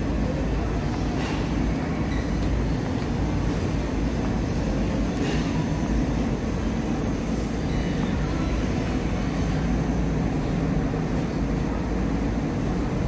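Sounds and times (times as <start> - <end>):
low store background rumble: 0.0 - 13.0.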